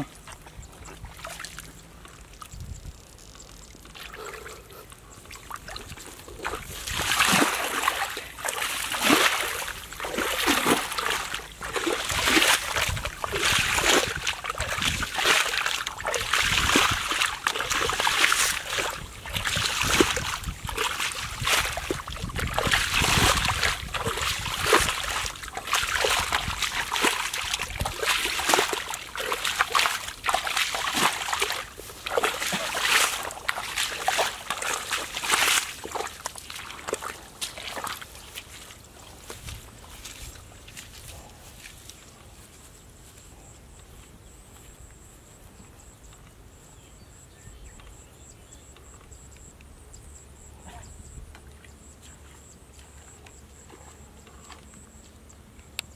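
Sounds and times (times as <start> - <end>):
muddy water splashing: 0.0 - 42.6, 50.6 - 55.5.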